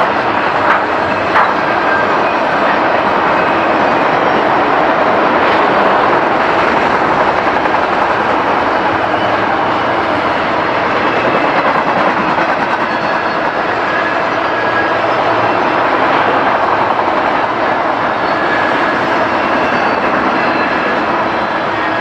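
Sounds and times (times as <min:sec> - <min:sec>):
freight train wheels rolling on rail: 0:00.0 - 0:22.0.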